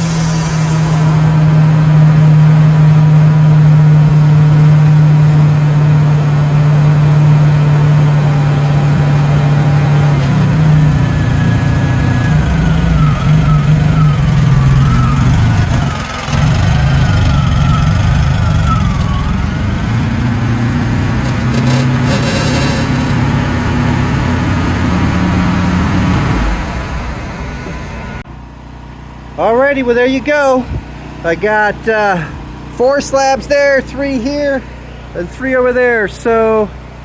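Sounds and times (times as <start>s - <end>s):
sawmill engine running: 0.0s - 37.0s.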